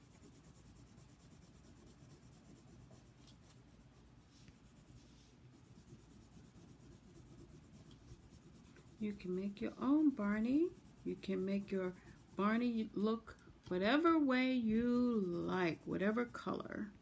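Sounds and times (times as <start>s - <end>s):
pencil scratching on paper: 0.0s - 12.9s, 14.7s - 16.6s.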